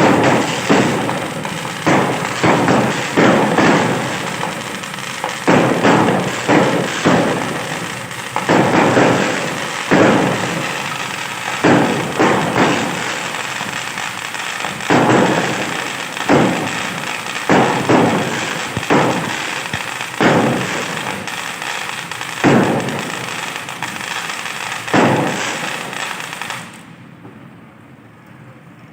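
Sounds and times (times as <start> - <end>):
fireworks crackling: 0.0 - 27.2
fireworks booming: 0.0 - 27.5.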